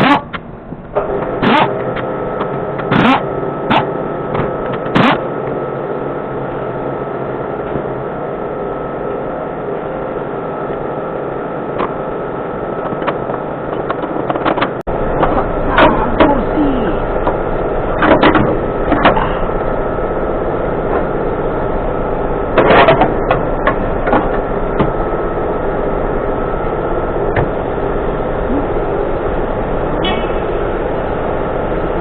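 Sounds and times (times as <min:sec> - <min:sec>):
machine running with hum: 0:00.0 - 0:32.0.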